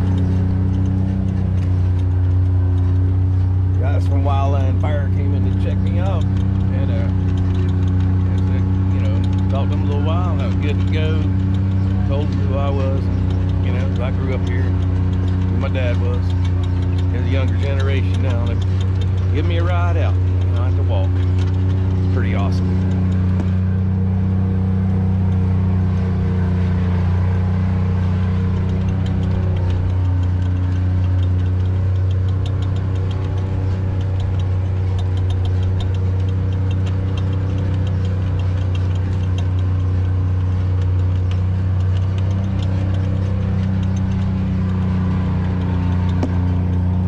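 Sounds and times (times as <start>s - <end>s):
utility vehicle engine running: 0.0s - 47.0s.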